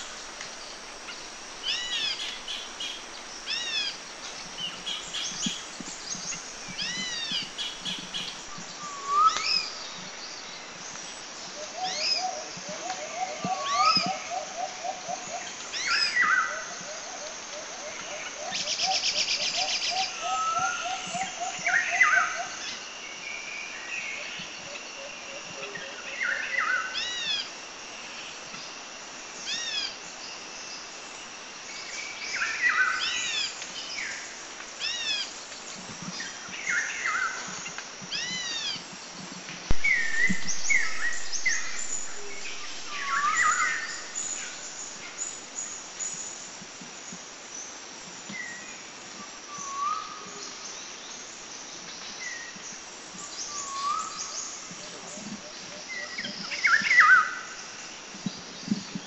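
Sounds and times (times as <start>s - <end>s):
background hiss: 0.0s - 59.0s
wild birds singing and chirping: 0.0s - 59.0s.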